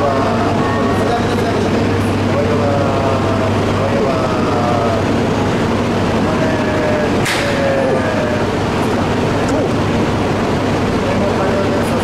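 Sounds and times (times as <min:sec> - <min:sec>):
equipment hum: 0:00.0 - 0:12.0
station noise: 0:00.0 - 0:12.0.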